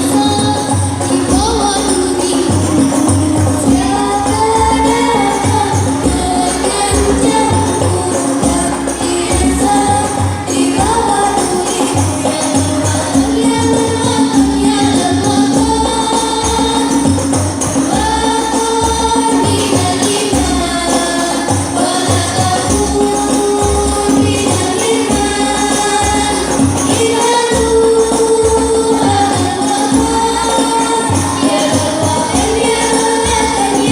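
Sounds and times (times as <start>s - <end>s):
devotional singing: 0.0s - 33.9s
frame drums beating: 0.0s - 33.9s
jingly percussion: 0.0s - 33.9s.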